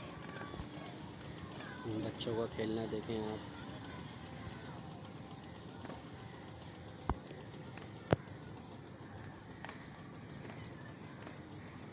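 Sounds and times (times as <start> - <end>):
steady outdoor hiss: 0.0 - 11.9.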